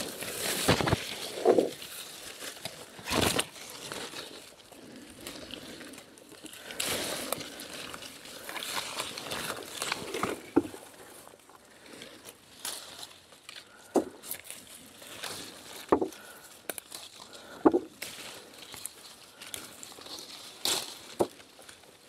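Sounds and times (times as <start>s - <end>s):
foliage and twigs rustling: 0.0s - 22.0s
twigs snapping: 0.0s - 22.0s.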